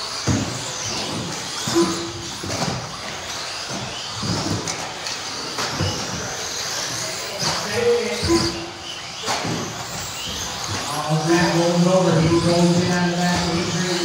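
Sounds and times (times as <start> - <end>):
rc car motors whining: 0.0 - 14.0.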